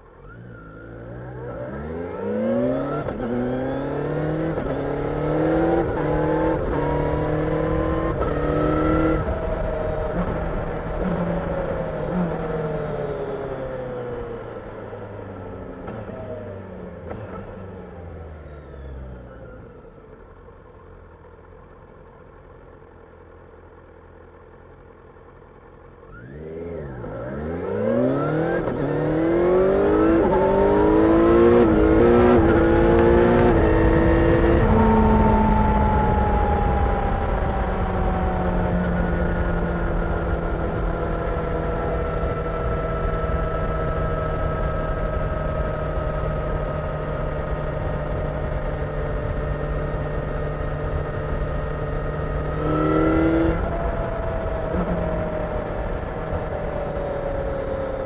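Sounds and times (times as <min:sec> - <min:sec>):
motorcycle engine revving: 0:00.0 - 0:19.0, 0:25.6 - 0:58.0.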